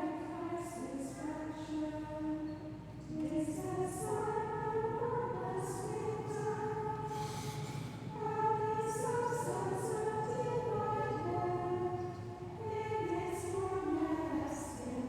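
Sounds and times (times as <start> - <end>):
women's choir singing a hymn: 0.0 - 15.0.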